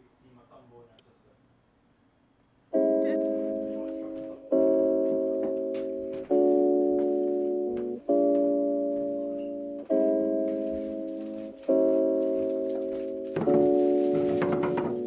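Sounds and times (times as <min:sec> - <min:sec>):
soft keyboard chords: 0:02.7 - 0:15.0.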